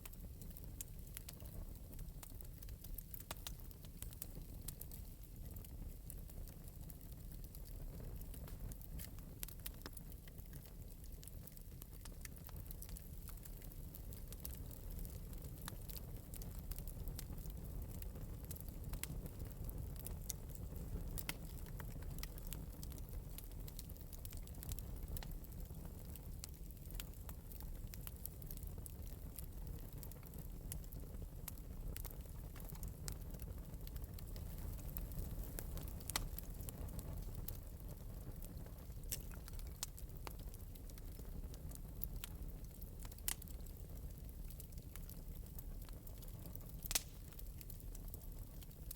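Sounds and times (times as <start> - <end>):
fire crackling and popping: 0.0 - 48.9
fire low rumble: 0.0 - 48.9.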